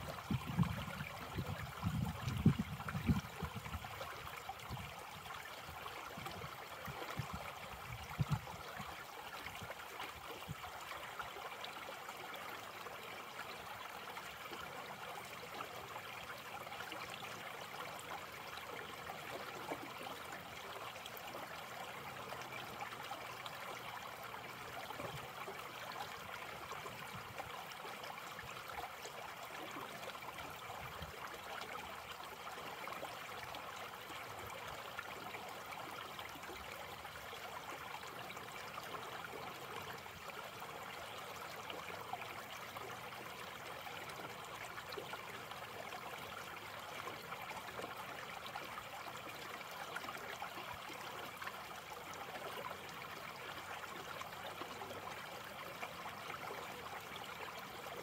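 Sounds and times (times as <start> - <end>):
creek babbling over stones: 0.0 - 58.0.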